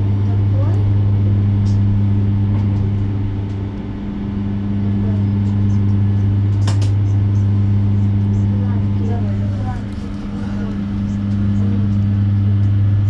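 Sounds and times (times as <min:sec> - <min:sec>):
electric bus interior hum: 0:00.0 - 0:13.0.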